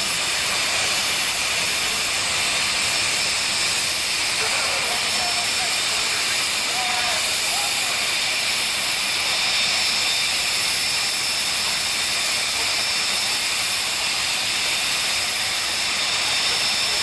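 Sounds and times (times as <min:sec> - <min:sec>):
jet engine roaring and whining: 0:00.0 - 0:17.0.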